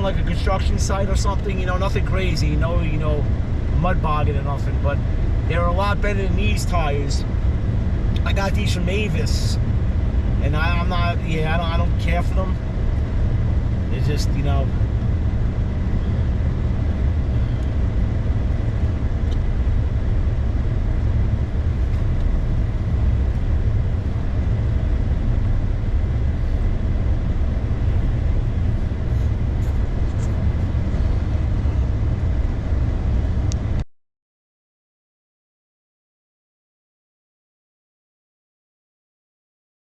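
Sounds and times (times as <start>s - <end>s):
truck engine and tyre drone: 0.0s - 33.9s.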